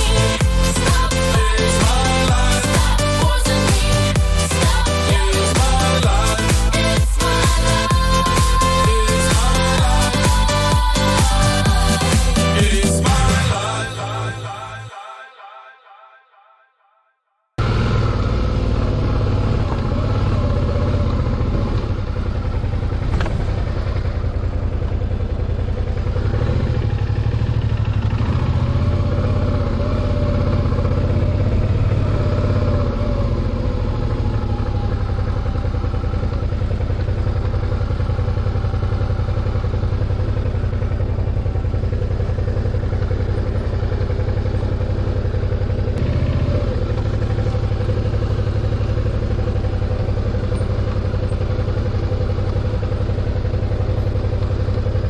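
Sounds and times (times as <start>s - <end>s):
motorcycle engine running: 0.0s - 14.7s, 17.6s - 55.0s.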